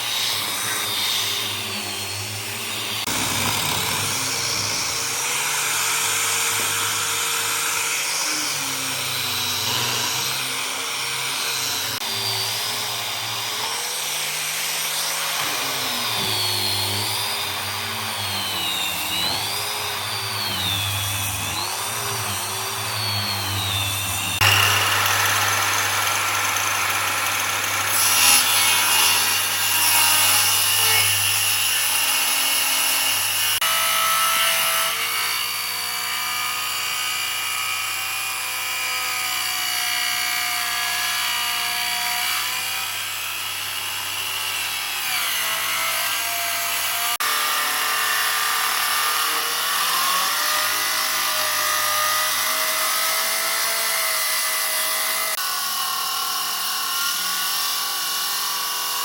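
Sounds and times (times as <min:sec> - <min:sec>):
power tool cutting wood: 0:00.0 - 0:59.0.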